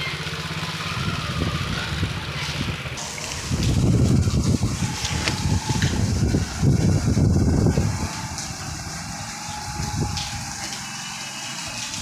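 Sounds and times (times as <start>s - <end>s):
wading through water slosh: 0.0s - 12.0s
wind buffeting microphone: 0.8s - 10.8s.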